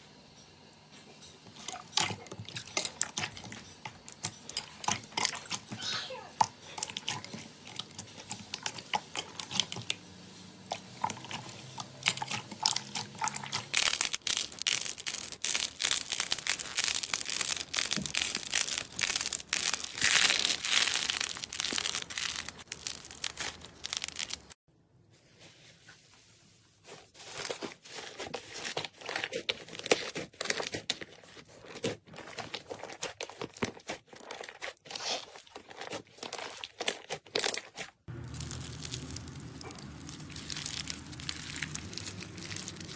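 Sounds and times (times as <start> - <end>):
slime squishing and crackling: 1.7 - 10.0, 10.7 - 24.6, 27.2 - 42.9.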